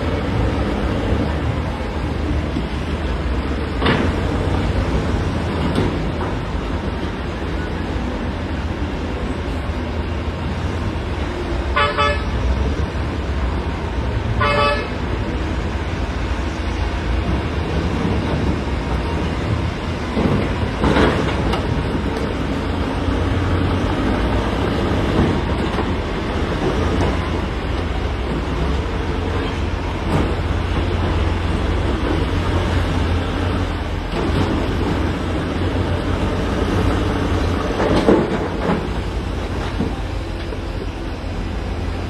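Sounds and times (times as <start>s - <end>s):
diesel earthmoving machinery running: 0.0s - 42.0s.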